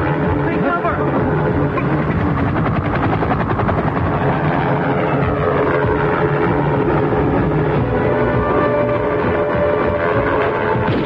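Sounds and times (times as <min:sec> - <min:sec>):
helicopter rotor chopping: 0:00.0 - 0:11.0
vehicle noise: 0:00.0 - 0:11.0.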